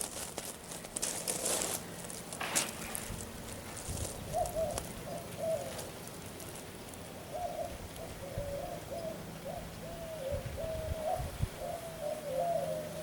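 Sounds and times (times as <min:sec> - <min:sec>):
bird calling: 0:00.8 - 0:13.0.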